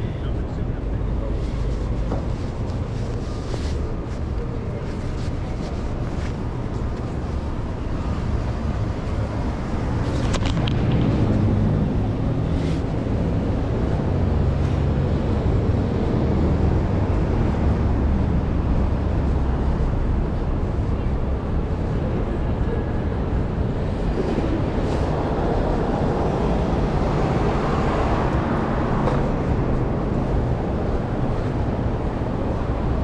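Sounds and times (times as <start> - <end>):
heavy engine low drone: 0.0 - 33.0
traffic rumble: 0.0 - 33.0.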